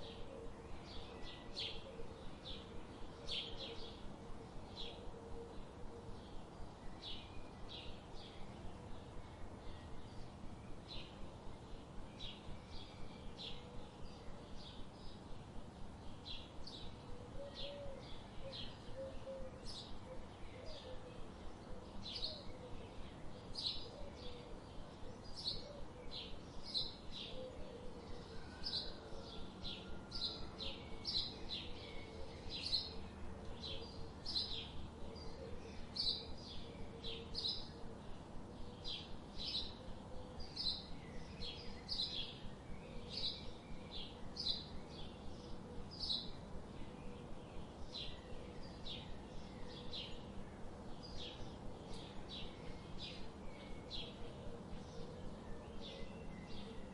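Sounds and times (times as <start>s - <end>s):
background hiss: 0.0s - 56.9s
songbirds chirping: 0.0s - 56.9s.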